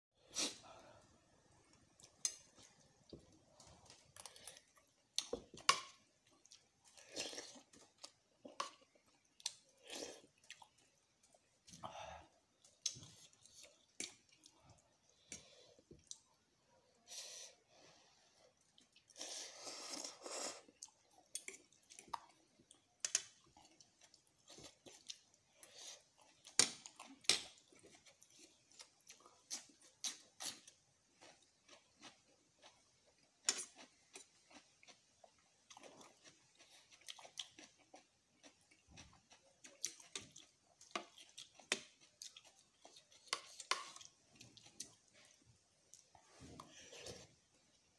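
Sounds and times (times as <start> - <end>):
person chewing noodles: 1.6 - 16.4, 18.1 - 47.8.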